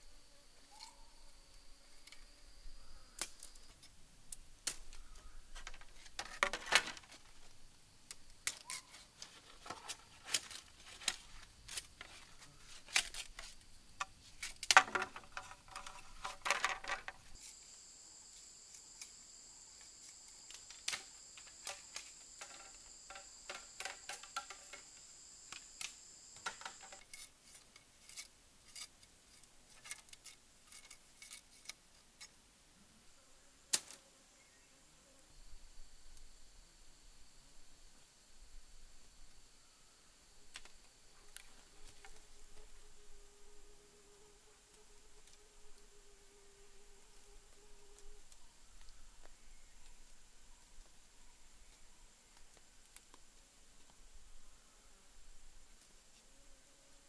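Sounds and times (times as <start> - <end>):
high insect drone: 0.0 - 27.3, 33.8 - 53.0.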